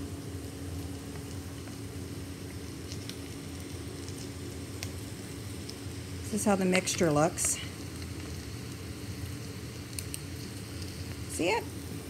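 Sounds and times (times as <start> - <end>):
food sizzling in a wok: 0.0 - 12.0
steady low hum: 0.0 - 12.0.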